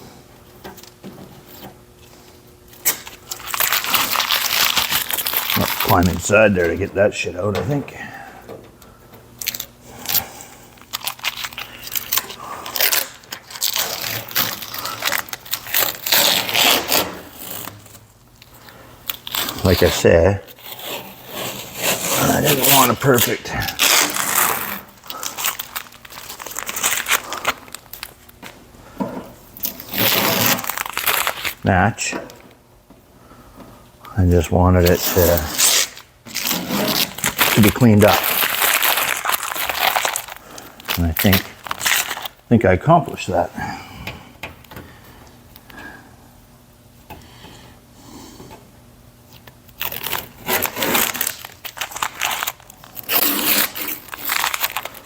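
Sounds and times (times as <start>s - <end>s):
crinkling: 0.6s - 32.6s, 34.1s - 43.4s, 49.3s - 55.0s.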